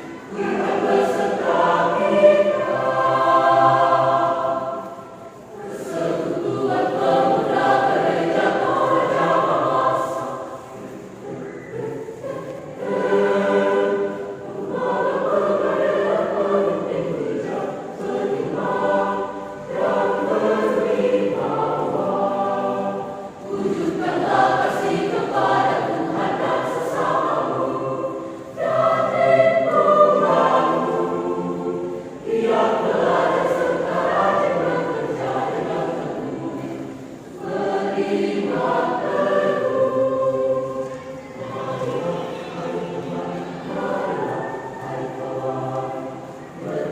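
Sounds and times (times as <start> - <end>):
church choir singing: 0.0 - 46.9.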